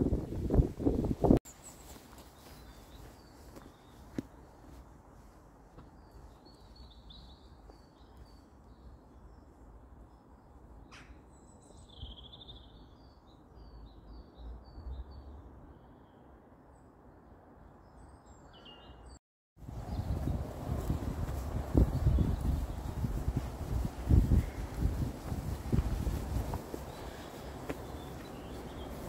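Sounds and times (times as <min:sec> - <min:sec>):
faint birdsong: 0:01.5 - 0:29.0.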